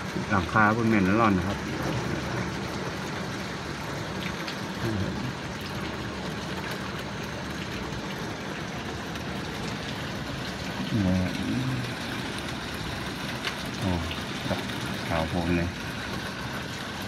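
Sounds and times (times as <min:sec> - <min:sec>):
hailstones ticking on hard surfaces: 0:00.0 - 0:17.0.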